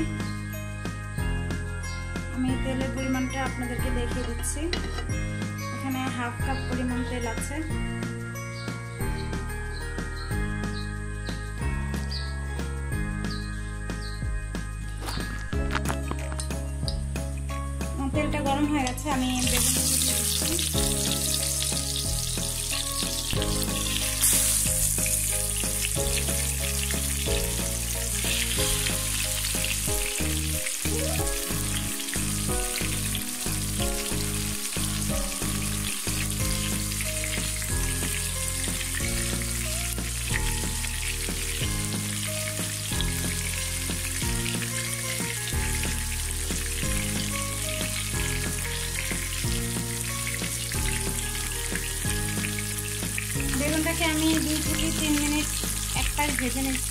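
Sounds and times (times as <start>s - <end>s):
eggplant sizzling in hot oil: 3.0s - 7.7s, 14.9s - 56.9s.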